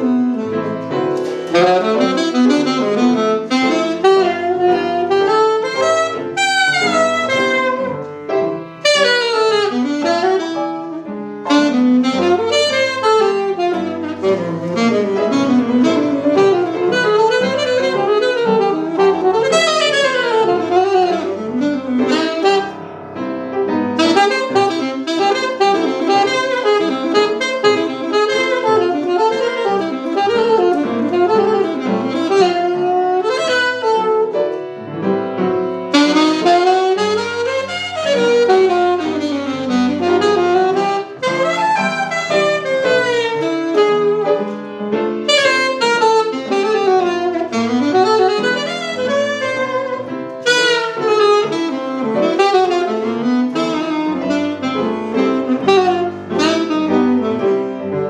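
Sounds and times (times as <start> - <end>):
jazz saxophone melody: 0.0 - 58.0
upright piano accompaniment: 0.0 - 58.0.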